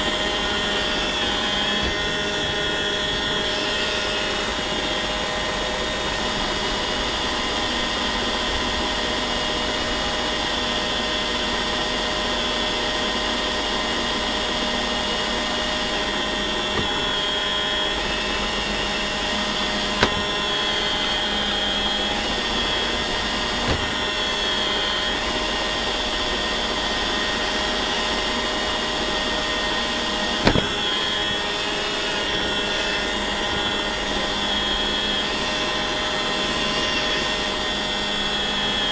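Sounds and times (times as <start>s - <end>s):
robot vacuum motor hum: 0.0s - 38.9s.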